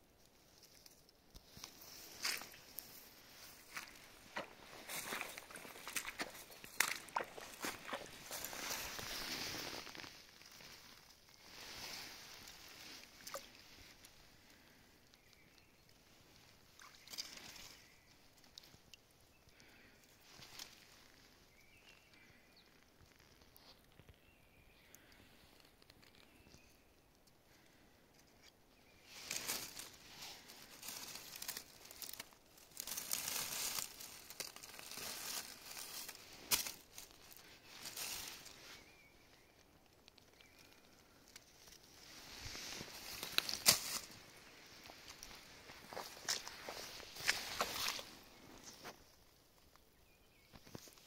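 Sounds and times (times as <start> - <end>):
rustling of dry grass and leaves: 0.0 - 51.0.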